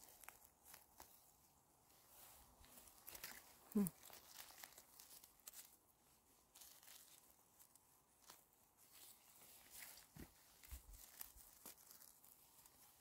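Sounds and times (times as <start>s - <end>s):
rustling and crackling vegetation: 0.0s - 13.0s.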